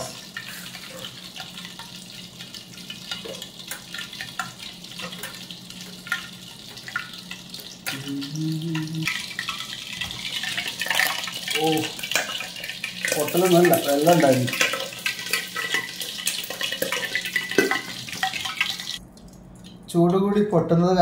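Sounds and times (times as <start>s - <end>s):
butter and oil sizzling in a pot: 0.0s - 19.0s.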